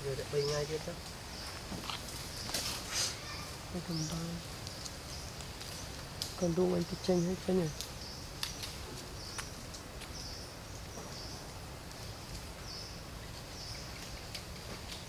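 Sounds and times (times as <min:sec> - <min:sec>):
insects buzzing: 0:00.0 - 0:15.0
steady background hiss: 0:00.0 - 0:15.0.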